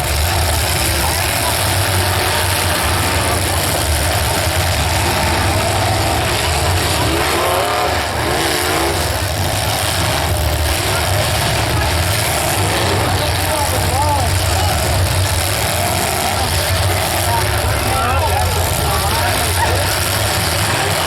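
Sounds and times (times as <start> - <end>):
car engines running and revving: 0.0 - 21.0.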